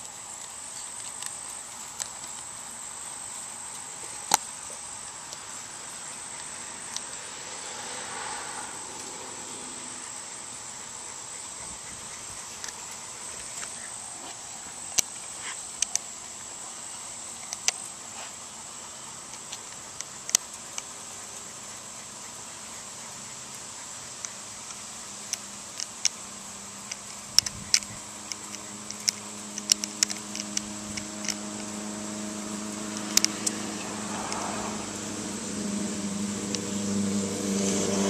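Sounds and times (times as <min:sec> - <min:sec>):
steady high hiss: 0:00.0 - 0:38.0.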